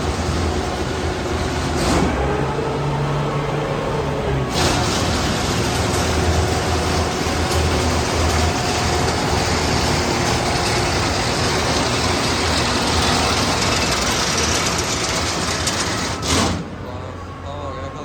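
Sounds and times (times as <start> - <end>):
vehicle engine running while moving: 0.0 - 18.0.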